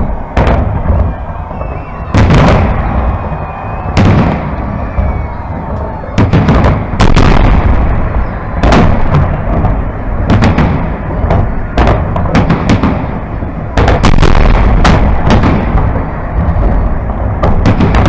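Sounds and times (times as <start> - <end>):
fireworks bangs: 0.0 - 18.0
low rumble: 0.0 - 18.0.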